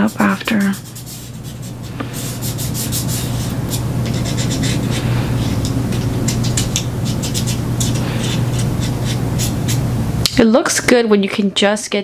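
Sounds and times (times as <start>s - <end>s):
fingertips rubbing on plastic: 0.0s - 9.9s
steady low hum: 0.0s - 12.0s.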